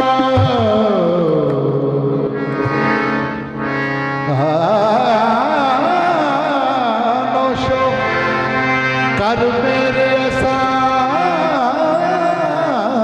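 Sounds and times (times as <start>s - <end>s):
person singing: 0.0s - 2.6s, 4.2s - 8.4s, 9.1s - 13.0s
harmonium chord: 0.0s - 13.0s.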